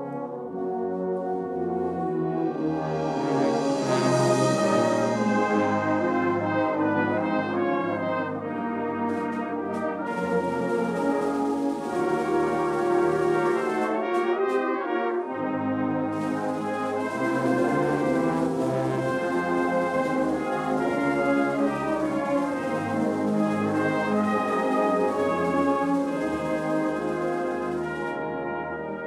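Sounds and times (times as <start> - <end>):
brass band playing a hymn: 0.0 - 29.0.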